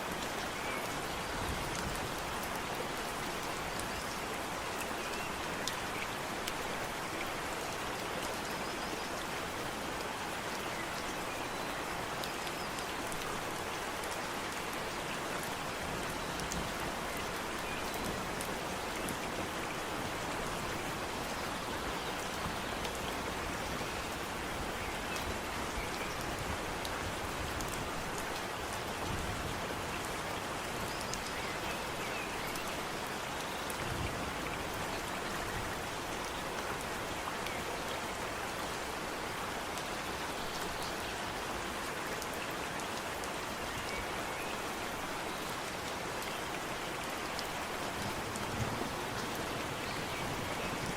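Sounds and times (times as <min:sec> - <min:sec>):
rain on foliage: 0:00.0 - 0:50.9.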